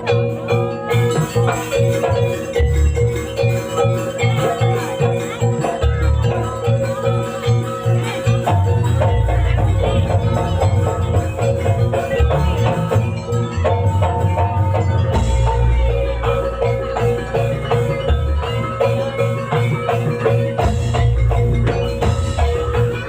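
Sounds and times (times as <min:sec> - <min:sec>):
gamelan ensemble music: 0:00.0 - 0:23.0.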